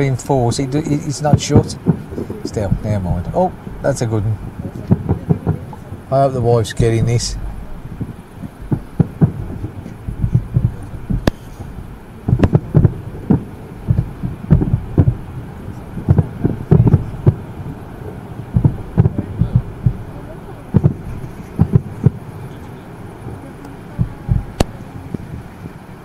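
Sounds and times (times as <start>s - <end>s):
muffled distant firework booms: 0.0s - 26.0s.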